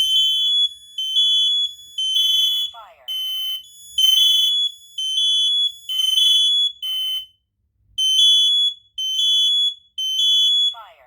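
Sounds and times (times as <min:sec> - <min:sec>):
smoke alarms beeping: 0:00.0 - 0:07.4, 0:08.0 - 0:10.9.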